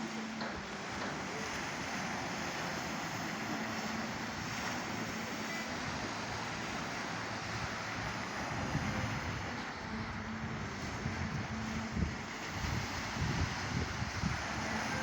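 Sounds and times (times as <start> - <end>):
surf rushing: 0.0 - 15.0
wind: 0.0 - 15.0.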